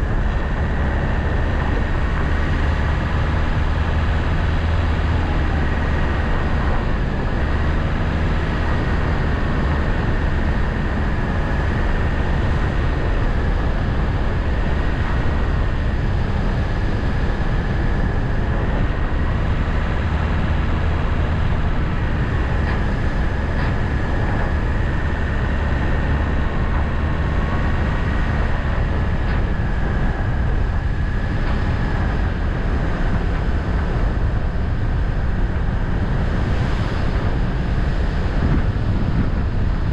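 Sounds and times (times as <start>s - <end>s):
faint wavering whine: 0.0s - 39.9s
vehicle engine and road noise: 0.0s - 39.9s.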